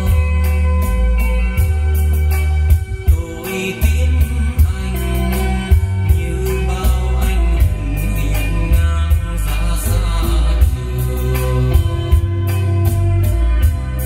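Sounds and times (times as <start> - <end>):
song over loudspeakers: 0.0 - 14.0.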